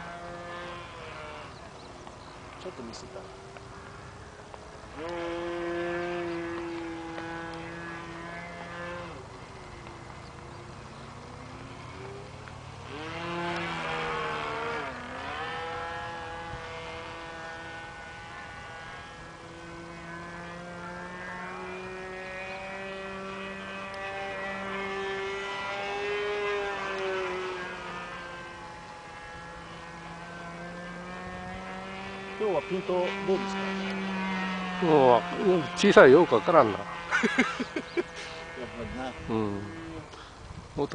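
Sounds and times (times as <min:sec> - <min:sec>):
model airplane engine droning: 0:00.0 - 0:40.9.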